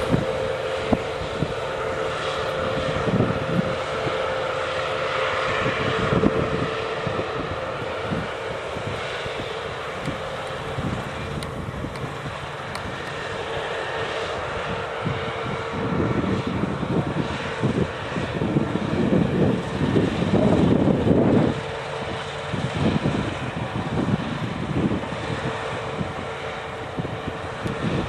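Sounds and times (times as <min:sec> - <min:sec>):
combine harvester engine hum: 0:00.0 - 0:28.0
wind buffeting microphone: 0:00.0 - 0:28.0.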